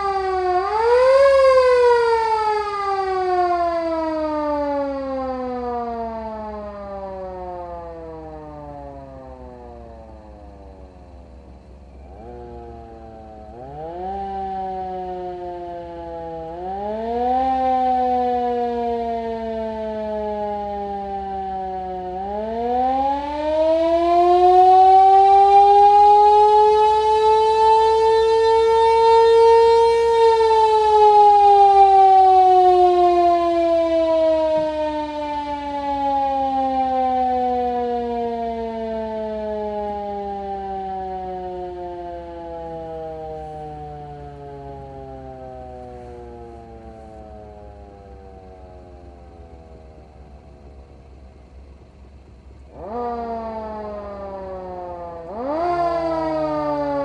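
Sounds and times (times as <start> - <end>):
electric motor siren wailing: 0.0 - 57.0.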